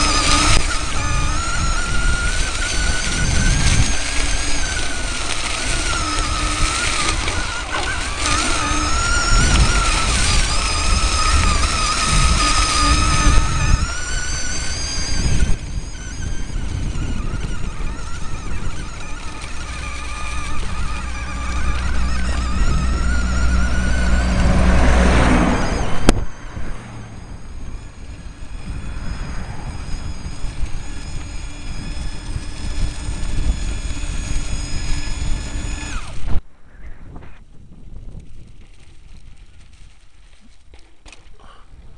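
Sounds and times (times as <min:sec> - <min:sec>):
electric motor whining: 0:00.0 - 0:36.5
heavy rumble over rough ground: 0:00.0 - 0:41.9.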